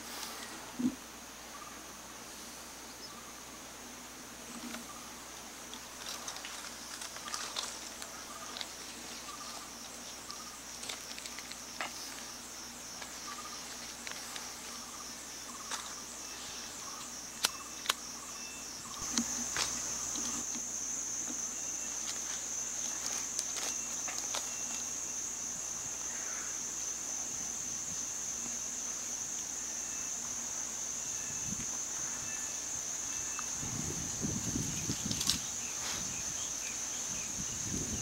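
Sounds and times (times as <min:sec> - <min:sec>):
forest insects buzzing: 0:00.0 - 0:38.0.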